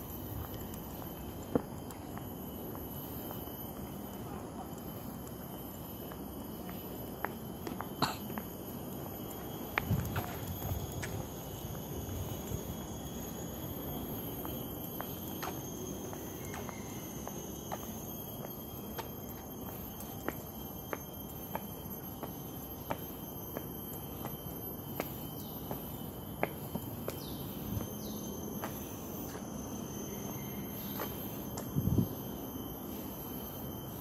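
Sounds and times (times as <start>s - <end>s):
high-pitched insect drone: 0.0s - 34.0s
footsteps walking: 4.8s - 32.1s.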